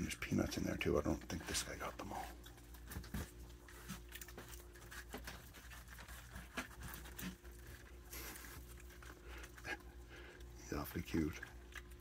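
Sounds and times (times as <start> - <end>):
animals crunching food: 0.0 - 12.0
steady low hum: 0.0 - 12.0.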